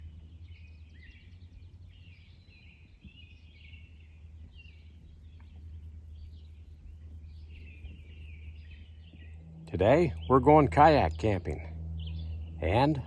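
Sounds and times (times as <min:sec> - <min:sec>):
low rumble: 0:00.0 - 0:13.0
songbirds singing: 0:00.0 - 0:13.0.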